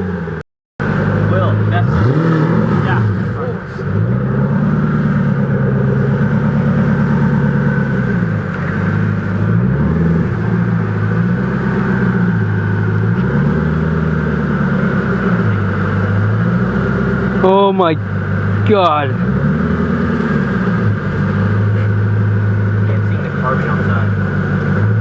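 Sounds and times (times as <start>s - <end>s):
car engine at low revs: 0.0s - 25.0s.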